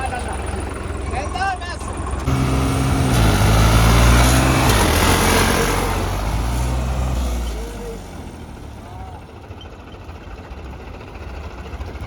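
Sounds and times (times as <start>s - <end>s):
tractor diesel engines under load: 0.0s - 12.0s.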